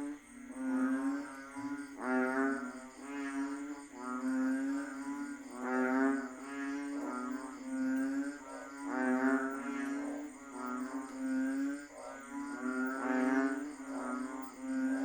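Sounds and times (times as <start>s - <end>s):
frogs calling: 0.0s - 15.0s.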